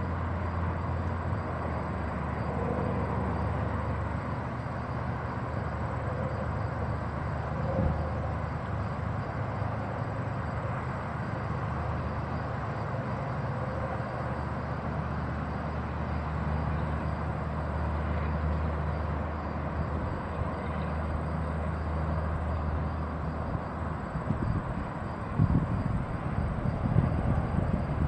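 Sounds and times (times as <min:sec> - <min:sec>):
distant freight train rumble: 0:00.0 - 0:28.0.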